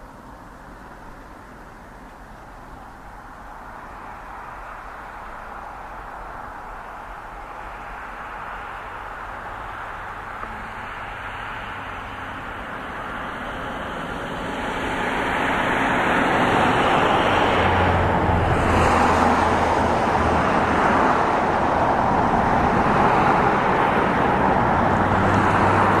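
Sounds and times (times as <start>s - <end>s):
road traffic roar: 0.0s - 26.0s.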